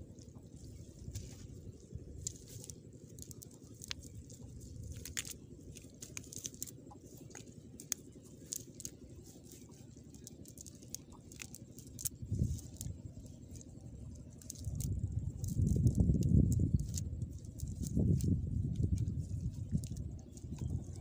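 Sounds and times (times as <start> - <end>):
grass and net rustling: 0.0 - 21.0
steady low rumble: 0.0 - 21.0.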